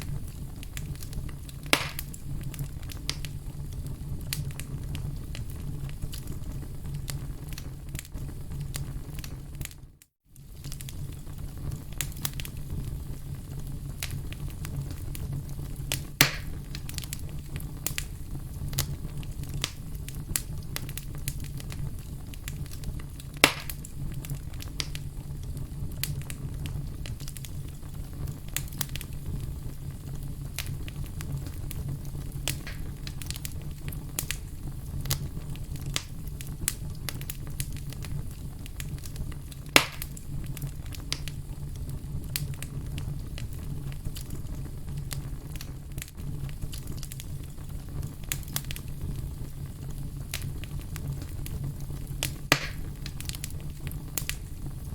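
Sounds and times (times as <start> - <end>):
fire sharp pops: 0.0 - 9.8, 10.4 - 54.9
wood fire crackling: 0.0 - 54.9.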